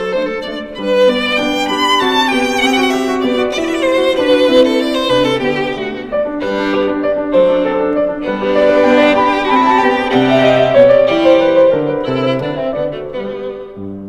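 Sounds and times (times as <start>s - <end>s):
bowed strings playing: 0.0s - 14.0s
piano: 0.0s - 14.0s.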